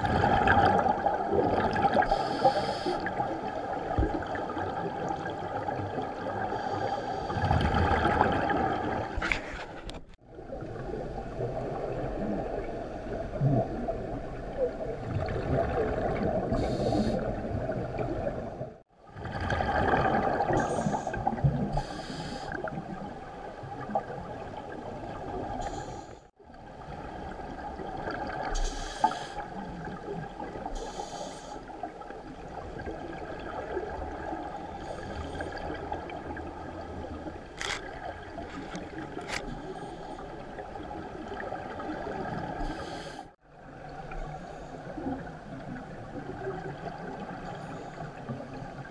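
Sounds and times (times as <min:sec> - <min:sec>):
regulator bubbles gurgling: 0:00.0 - 0:09.3, 0:10.2 - 0:48.9
muffled underwater rumble: 0:00.0 - 0:48.9.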